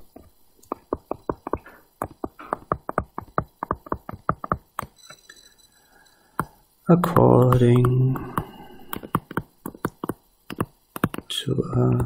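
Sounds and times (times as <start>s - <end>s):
stylus tapping on tablet screen: 0.1s - 5.2s, 6.3s - 11.3s.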